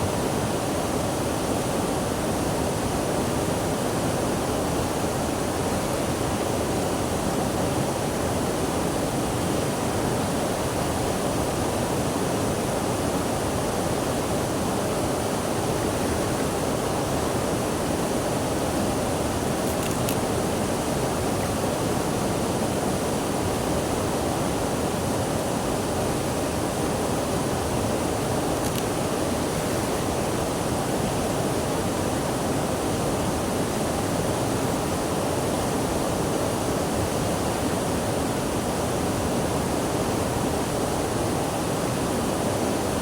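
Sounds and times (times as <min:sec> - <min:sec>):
flowing water rushing: 0:00.0 - 0:43.0.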